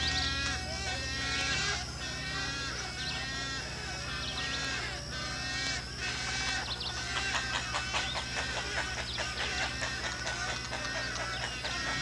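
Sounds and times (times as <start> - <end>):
steady low hum: 0.0 - 12.0
wading birds calling: 0.0 - 12.0.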